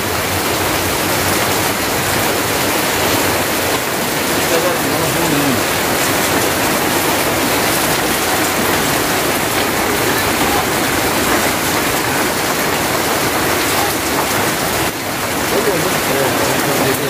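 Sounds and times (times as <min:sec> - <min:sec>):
heavy rain falling: 0:00.0 - 0:17.0
water pouring off roof: 0:00.0 - 0:17.0.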